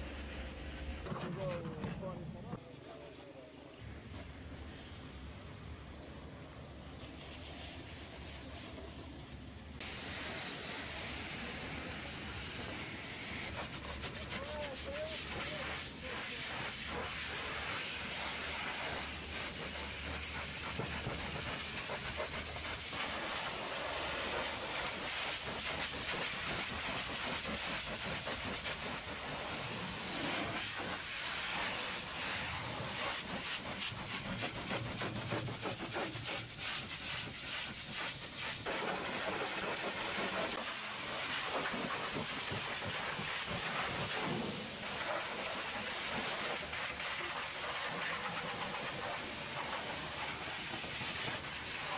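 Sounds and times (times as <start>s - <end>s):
pressure washer water jet hissing: 6.0s - 51.9s.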